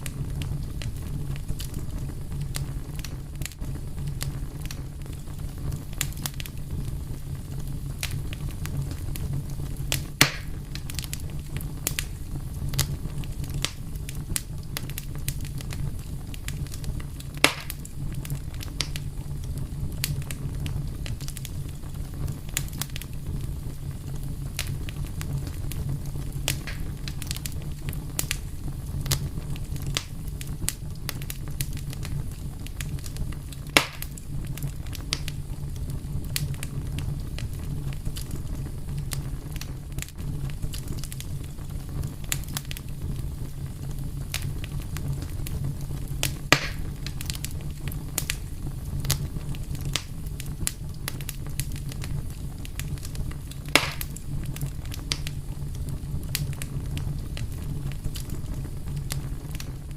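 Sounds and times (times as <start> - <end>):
fire crackling: 0.0 - 59.9
loud fire pops: 0.0 - 59.9.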